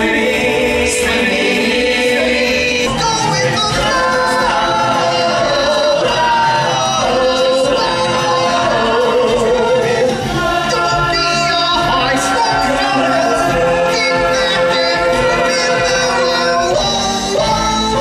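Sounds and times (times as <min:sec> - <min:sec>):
chorus singing: 0:00.0 - 0:18.0
stage musical music: 0:00.0 - 0:18.0.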